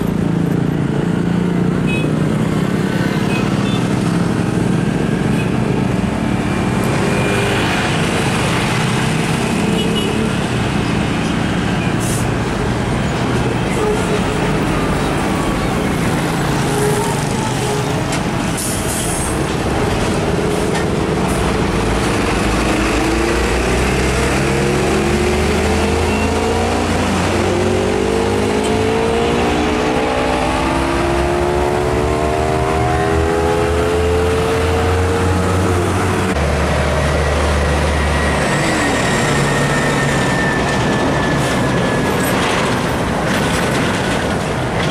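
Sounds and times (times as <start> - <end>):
diesel trucks passing: 0.0 - 44.9
road traffic: 0.0 - 44.9.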